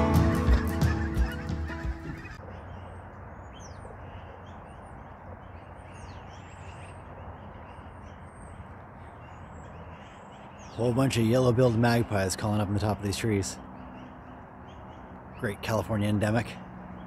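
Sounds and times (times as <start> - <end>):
magpies calling: 0.0 - 17.0.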